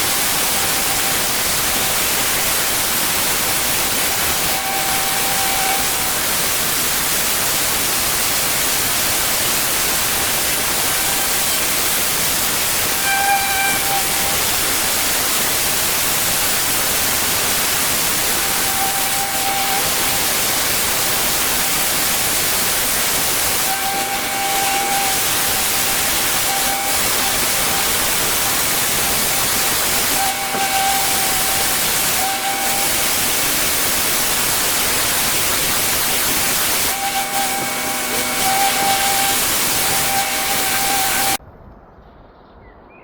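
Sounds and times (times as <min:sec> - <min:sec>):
pressure washer spraying: 0:00.0 - 0:41.4.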